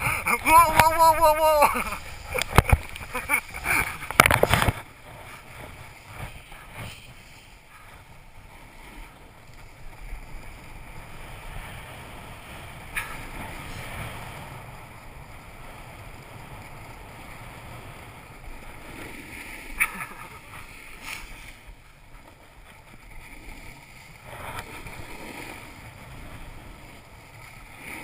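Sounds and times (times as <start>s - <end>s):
snowboard scraping on snow: 0.0s - 28.0s
wind rushing over microphone: 0.0s - 28.0s.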